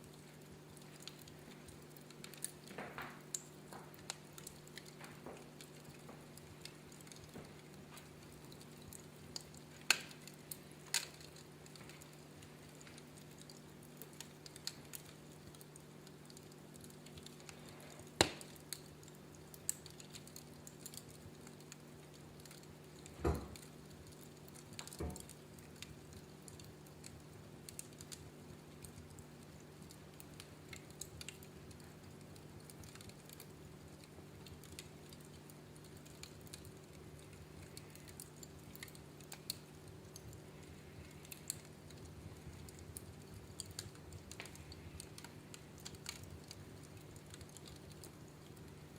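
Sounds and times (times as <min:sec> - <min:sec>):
faint steady hum: 0:00.0 - 0:48.9
wood fire crackling: 0:00.0 - 0:48.9.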